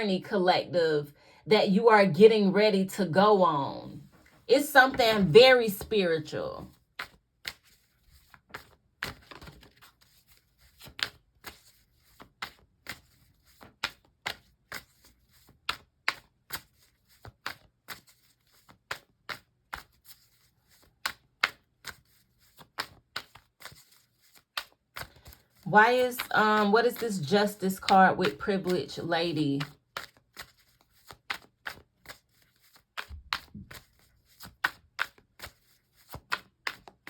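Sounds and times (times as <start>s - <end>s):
cards being shuffled: 6.7s - 37.0s.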